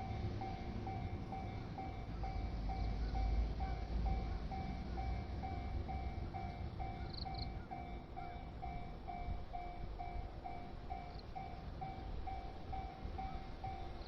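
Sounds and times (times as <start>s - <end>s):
level crossing warning bell: 0.0s - 14.0s.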